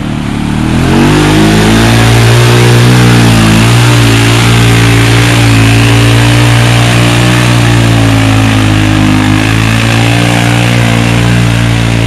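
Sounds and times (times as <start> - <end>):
atv engine pulling hard: 0.0 - 12.0
tires churning and splashing mud: 0.0 - 12.0.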